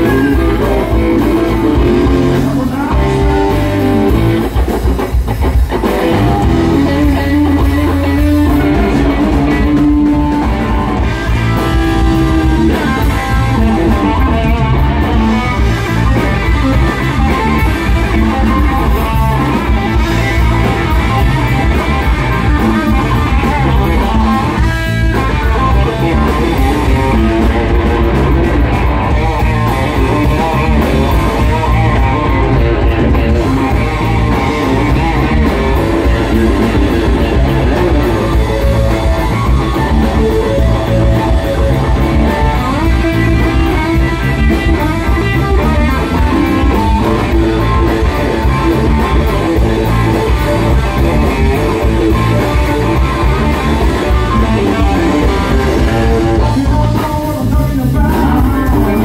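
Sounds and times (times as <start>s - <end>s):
bass guitar: 0.0s - 59.0s
drums: 0.0s - 59.0s
electric guitar lead: 0.0s - 59.0s.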